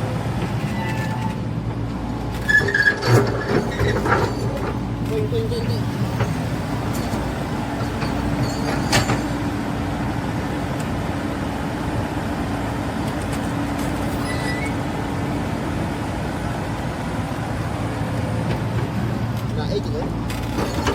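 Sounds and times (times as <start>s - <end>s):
diesel engine humming: 0.0s - 20.9s.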